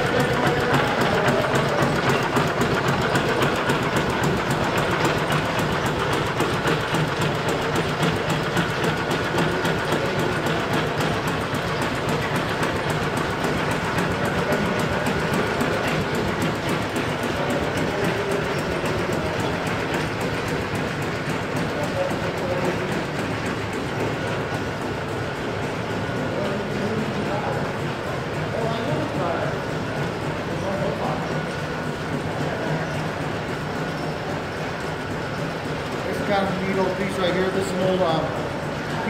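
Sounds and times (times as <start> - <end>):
belt-driven machinery clattering: 0.0 - 39.0.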